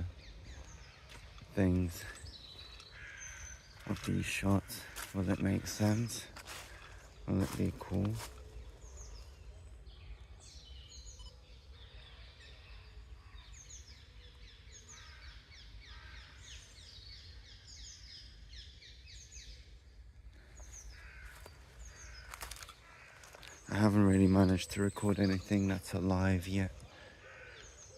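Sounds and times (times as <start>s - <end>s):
songbirds chirping and singing: 0.0s - 27.9s.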